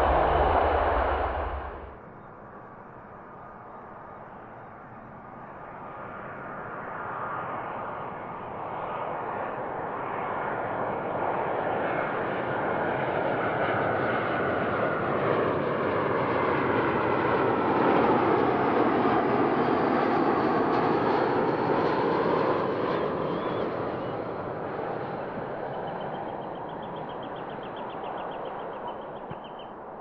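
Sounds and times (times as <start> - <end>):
jet airliner engines: 0.0 - 30.0.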